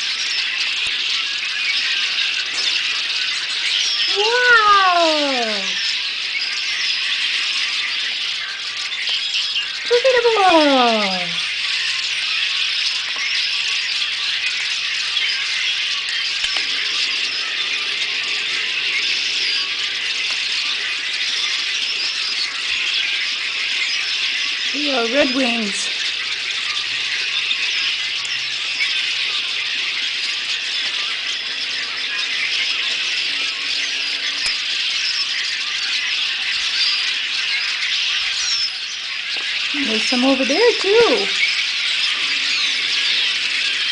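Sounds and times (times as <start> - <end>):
flock of blackbirds calling: 0.0 - 43.9.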